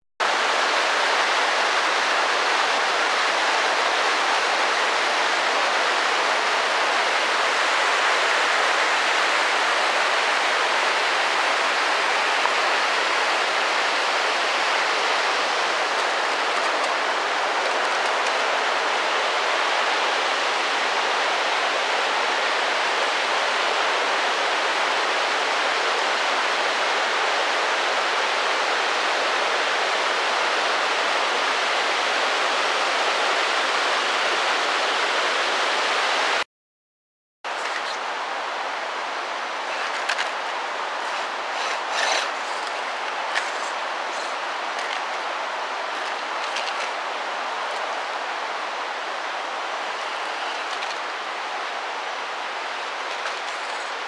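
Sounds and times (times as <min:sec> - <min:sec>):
waterfall rushing: 0:00.2 - 0:36.4, 0:37.5 - 0:54.0.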